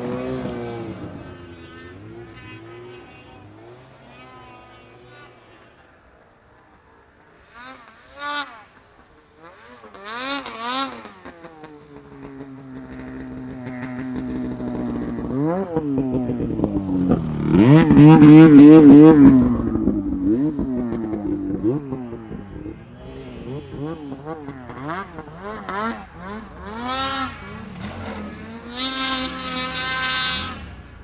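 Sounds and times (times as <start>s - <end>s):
snowmobile engines revving: 0.0s - 31.0s.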